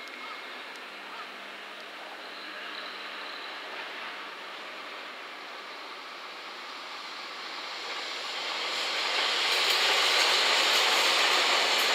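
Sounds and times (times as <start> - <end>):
electric train passing at speed: 0.0 - 11.9.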